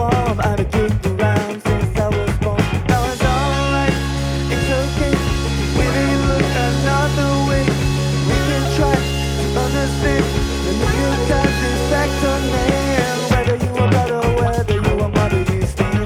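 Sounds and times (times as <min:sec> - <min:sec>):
bass line: 0:00.0 - 0:16.0
electric guitars: 0:00.0 - 0:16.0.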